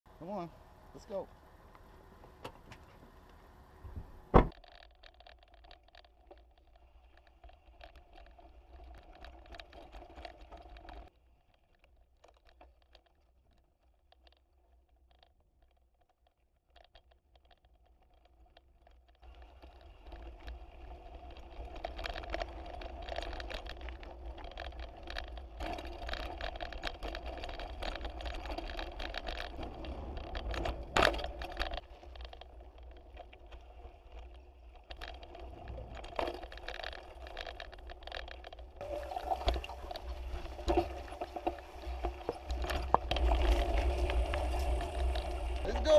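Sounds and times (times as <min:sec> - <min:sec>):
bike rattling on dirt trail: 0:04.5 - 0:45.9.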